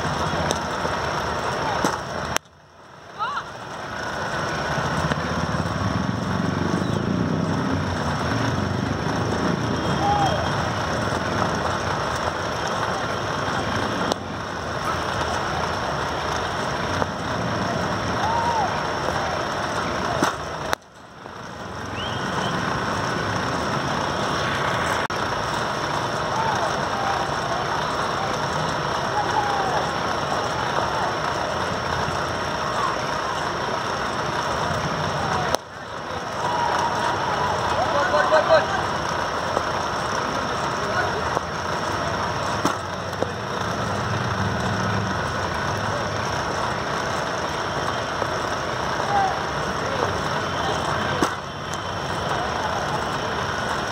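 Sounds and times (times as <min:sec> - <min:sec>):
outdoor background noise: 0:00.0 - 0:53.9.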